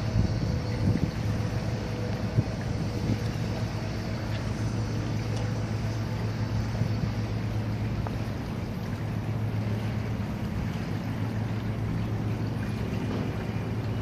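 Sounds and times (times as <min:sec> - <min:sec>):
engine running drone: 0:00.0 - 0:14.0.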